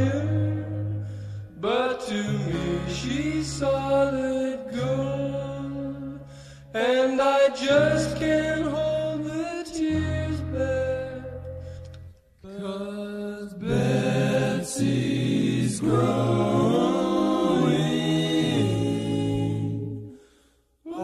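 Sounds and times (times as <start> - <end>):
song with vocal harmonies: 0.0 - 21.0.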